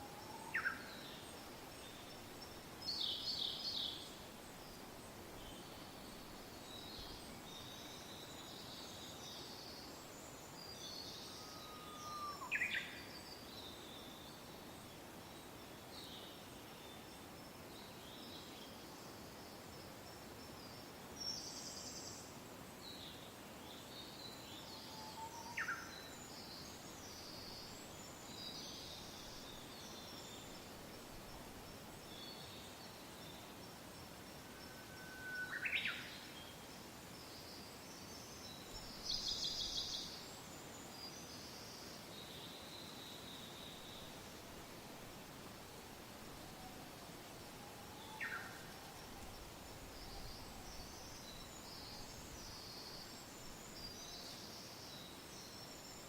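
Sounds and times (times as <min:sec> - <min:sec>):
soft wind: 0:00.0 - 0:56.0.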